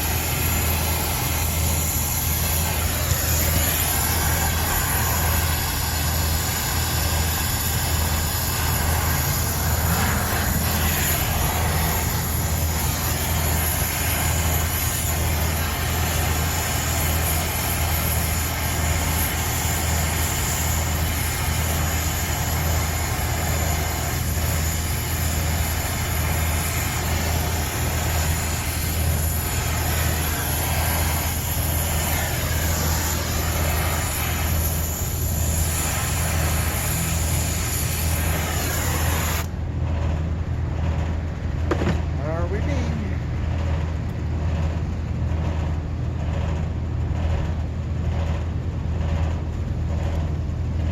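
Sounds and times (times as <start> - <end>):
low machinery hum: 0.0 - 50.9.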